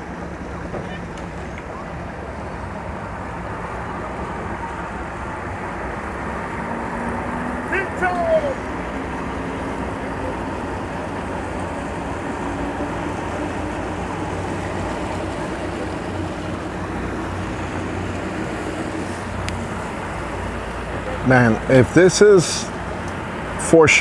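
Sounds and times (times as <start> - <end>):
outboard motors idling: 0.0 - 24.0.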